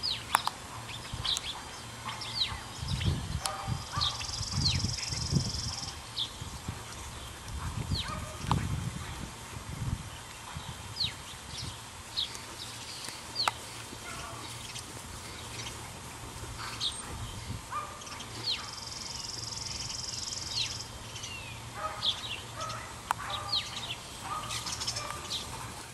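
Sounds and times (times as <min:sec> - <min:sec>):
birds chirping: 0:00.0 - 0:09.1, 0:10.1 - 0:25.9.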